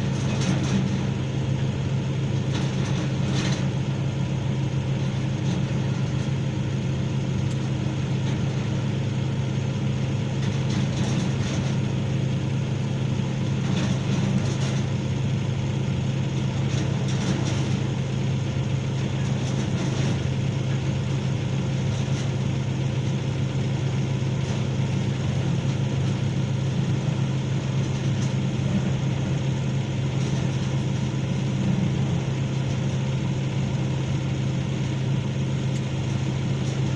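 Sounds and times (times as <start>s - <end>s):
excavator diesel engine hum: 0.0s - 36.9s.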